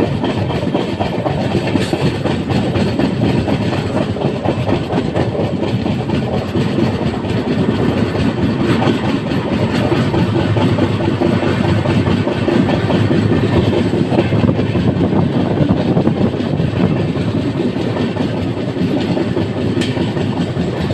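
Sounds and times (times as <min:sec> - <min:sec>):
train wheels rumbling and rattling: 0:00.0 - 0:20.9.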